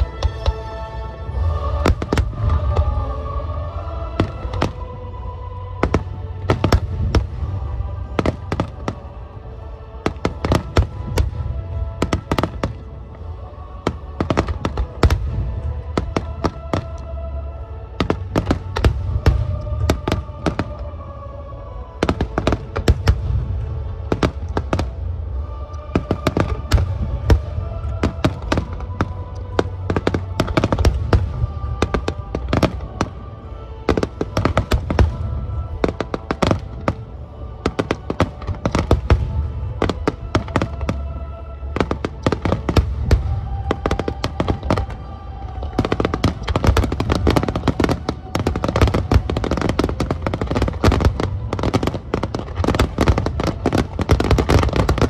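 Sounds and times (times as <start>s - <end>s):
music with held notes: 0.0s - 55.0s
rapid fireworks bangs: 1.6s - 3.2s, 5.8s - 9.1s, 10.0s - 12.9s, 13.8s - 17.0s, 18.0s - 20.9s, 22.0s - 25.1s, 25.8s - 41.1s, 41.7s - 55.0s.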